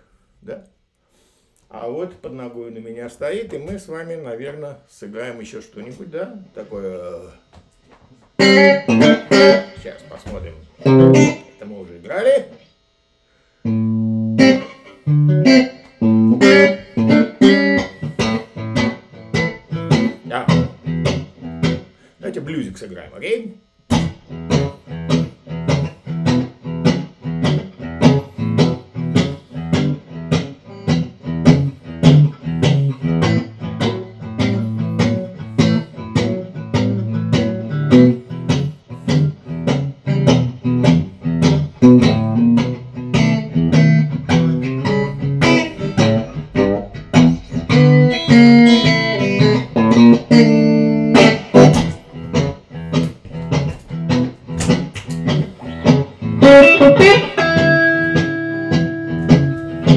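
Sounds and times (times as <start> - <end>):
electric guitar playing blues: 8.2 - 12.6, 13.6 - 23.2, 23.9 - 59.9.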